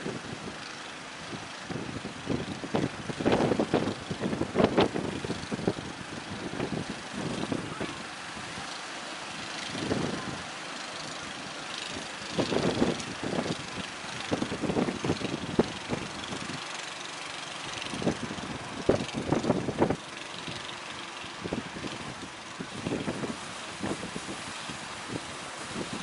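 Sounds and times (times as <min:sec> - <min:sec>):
boat engine running: 0:00.0 - 0:26.0
waves rushing: 0:00.0 - 0:26.0
wind on microphone: 0:01.2 - 0:08.7, 0:09.4 - 0:10.5, 0:11.8 - 0:16.7, 0:17.7 - 0:20.7, 0:21.4 - 0:26.0.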